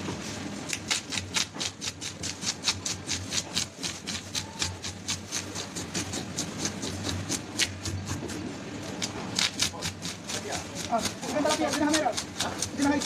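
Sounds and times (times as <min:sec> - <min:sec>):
fish scaler scraping scales: 0:00.6 - 0:13.0.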